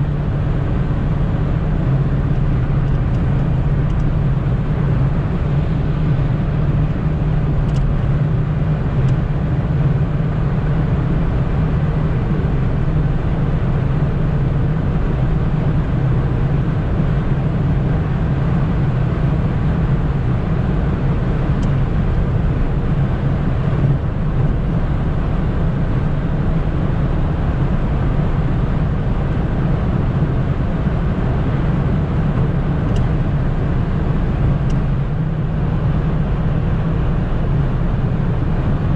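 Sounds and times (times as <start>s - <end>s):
car engine droning: 0.0s - 38.9s
road and wind noise: 0.0s - 38.9s.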